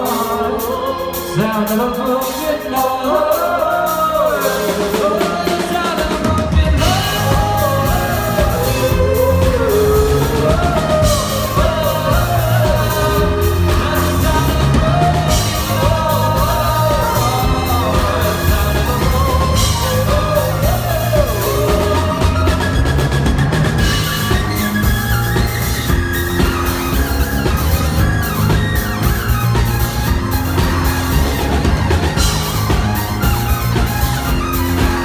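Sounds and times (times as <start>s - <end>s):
bass: 0.0s - 35.0s
drum kit: 0.0s - 35.0s
pop-rock melody lines: 0.0s - 35.0s.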